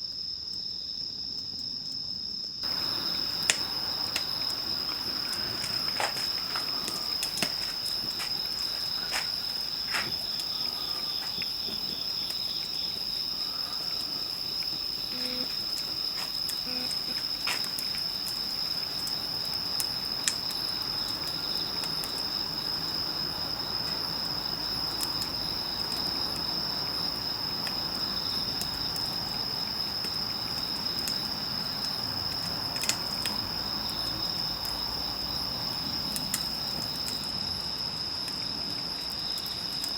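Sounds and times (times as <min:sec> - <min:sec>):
insects trilling: 0:00.0 - 0:39.9
campfire popping and crackling: 0:02.6 - 0:39.9.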